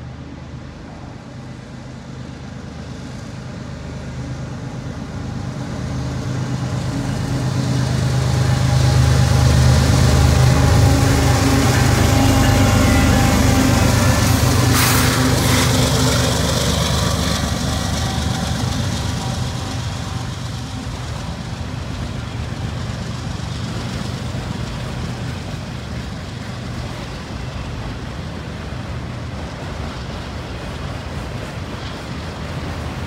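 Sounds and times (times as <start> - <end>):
diesel locomotive engines droning: 0.0 - 33.0.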